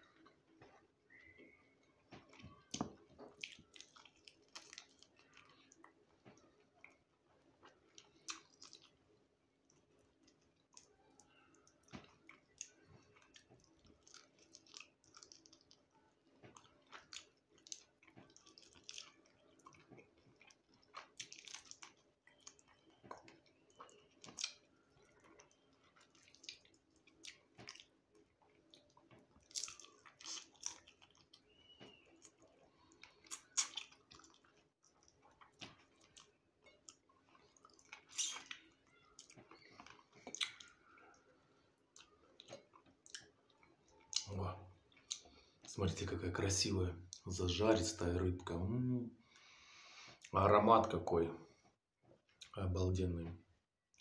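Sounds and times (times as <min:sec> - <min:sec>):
chewing with mouth clicks: 0:00.0 - 0:45.8.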